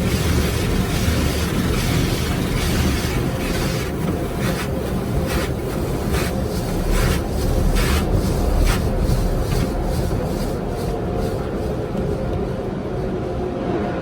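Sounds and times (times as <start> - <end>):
car wash brushes swishing: 0.0 - 13.6
car wash machinery rumble: 0.0 - 14.0.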